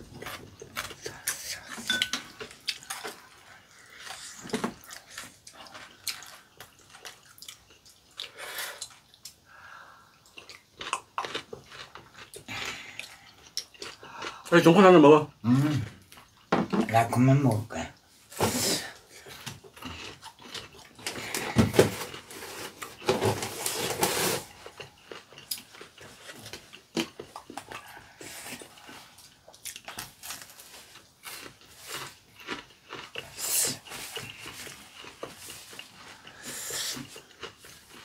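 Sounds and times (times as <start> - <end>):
biting and chewing food: 0.0 - 9.4, 10.2 - 14.8, 19.1 - 38.0.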